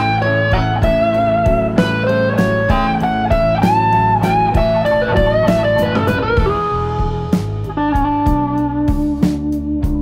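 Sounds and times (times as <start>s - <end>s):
lead guitar melody: 0.0s - 10.0s
steady drum beat: 0.0s - 10.0s.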